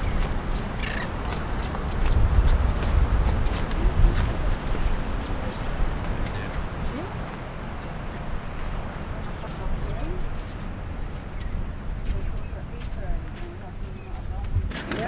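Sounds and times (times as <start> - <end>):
insect chorus buzzing: 0.0 - 15.0
wind rumble on microphone: 0.0 - 15.0.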